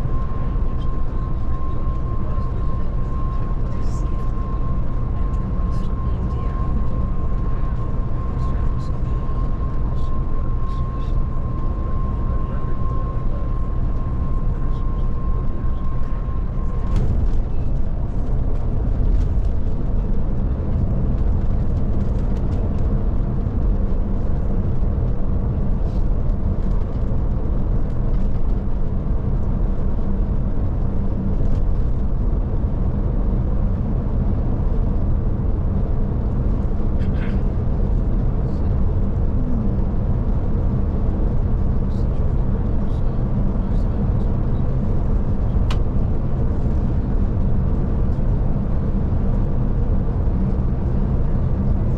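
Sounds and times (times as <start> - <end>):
diesel engine and road rumble: 0.0 - 51.9.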